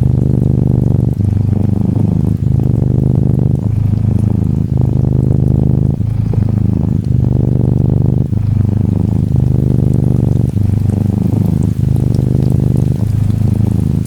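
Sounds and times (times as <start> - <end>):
gentle rain patter: 0.0 - 14.0
kitten purring: 0.0 - 14.0.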